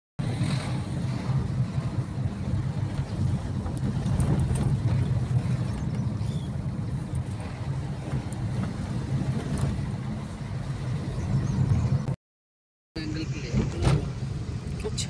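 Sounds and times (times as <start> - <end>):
car engine and road noise: 0.2 - 12.2, 13.0 - 15.0.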